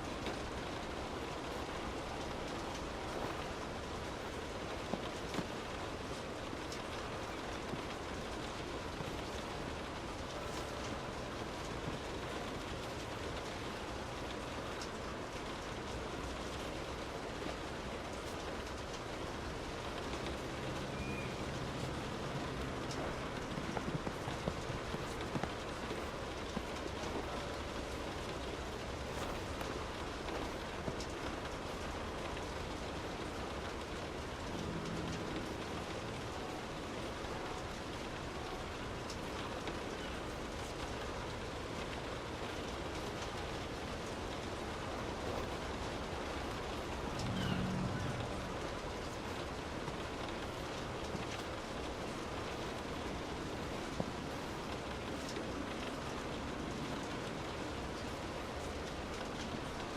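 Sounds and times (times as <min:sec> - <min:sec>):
rain on a car roof: 0:00.0 - 0:59.9.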